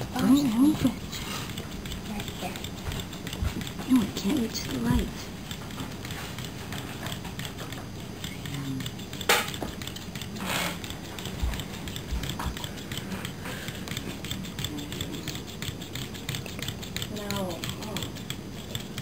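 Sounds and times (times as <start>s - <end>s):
robot gear motor and legs ticking: 0.0s - 19.0s.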